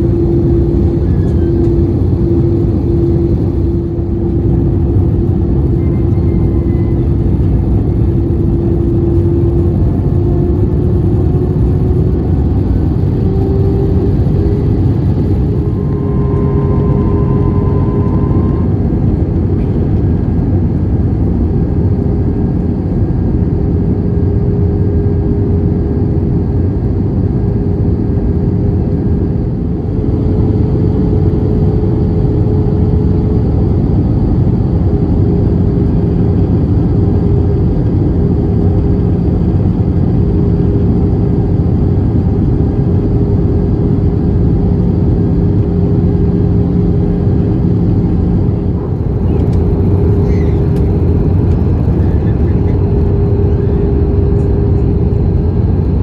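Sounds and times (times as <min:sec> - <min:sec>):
jet engines and rushing air: 0:00.0 - 0:56.0
steady droning tone: 0:00.0 - 0:56.0.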